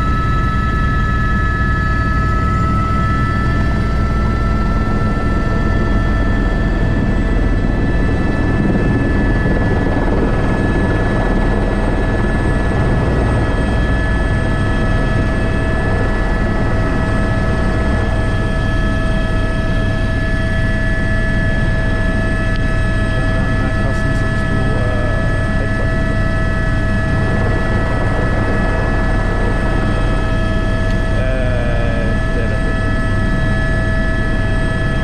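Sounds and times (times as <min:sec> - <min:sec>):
helicopter engine whine: 0:00.0 - 0:35.0
helicopter rotor beat: 0:00.0 - 0:35.0.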